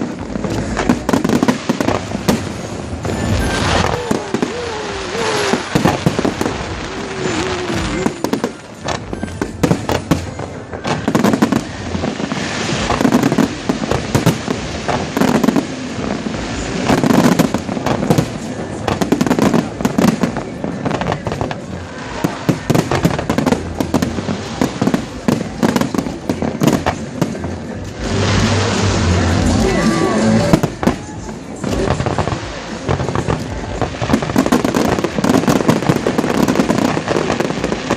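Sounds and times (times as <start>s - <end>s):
fireworks crackling and popping: 0.0s - 37.9s.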